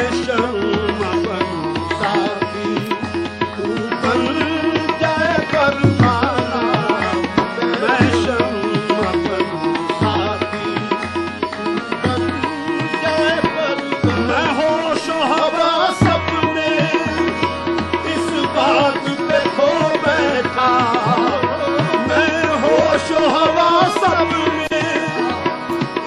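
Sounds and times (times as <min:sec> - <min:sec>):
ornamented melody line: 0:00.0 - 0:26.0
tabla drumming: 0:00.0 - 0:26.0.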